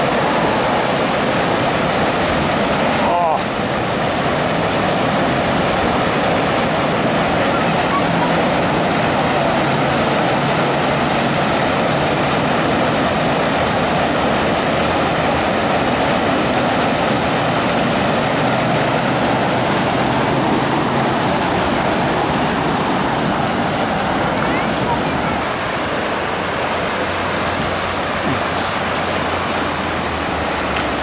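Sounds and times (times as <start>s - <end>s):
whitewater rushing through rapids: 0.0s - 31.0s.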